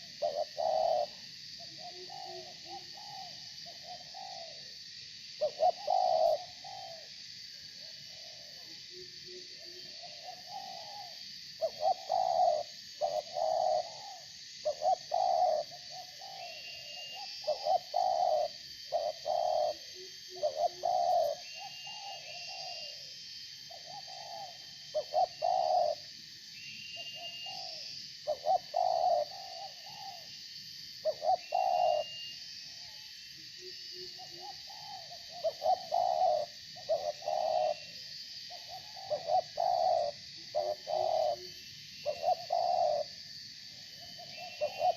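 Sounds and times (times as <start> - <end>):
dove cooing: 0.0 - 4.7, 5.4 - 7.1, 7.8 - 23.1, 23.7 - 26.1, 27.2 - 30.3, 31.0 - 32.2, 33.9 - 43.2, 44.0 - 44.9
high insect drone: 0.0 - 44.9.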